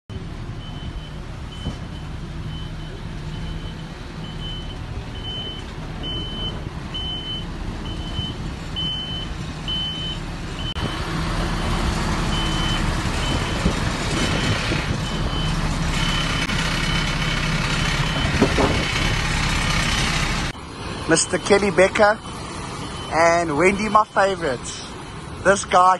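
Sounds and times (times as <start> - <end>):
truck back-up alarm beeping: 0.1 - 20.3, 21.1 - 25.9
diesel engine running: 0.1 - 25.9.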